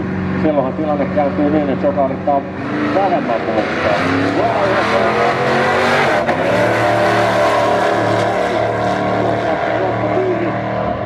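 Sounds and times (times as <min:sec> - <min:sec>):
drag racing cars accelerating: 0:00.0 - 0:11.0.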